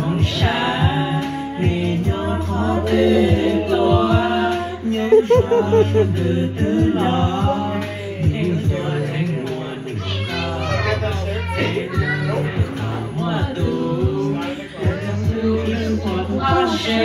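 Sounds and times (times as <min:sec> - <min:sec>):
children singing into microphones: 0:00.0 - 0:17.0.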